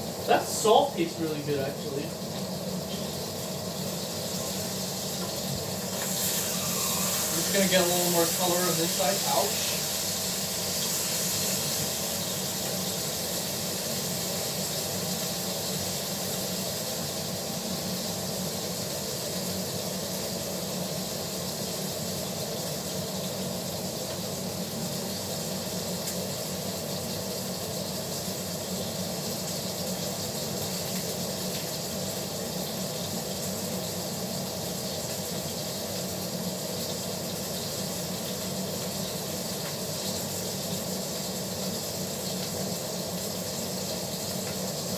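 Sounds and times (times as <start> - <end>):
steak sizzling in a pan: 0.0 - 44.9.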